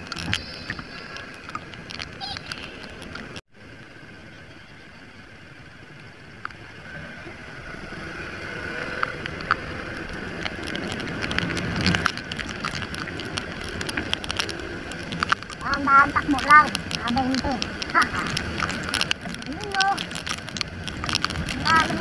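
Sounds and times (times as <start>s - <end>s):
raindrops tapping on microphone: 0.0s - 3.4s, 6.0s - 22.0s
wind and rain noise: 0.0s - 22.0s.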